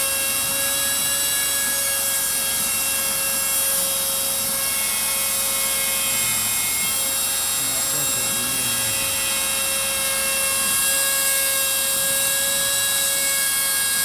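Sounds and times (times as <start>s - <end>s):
router high-pitched whine: 0.0s - 14.0s.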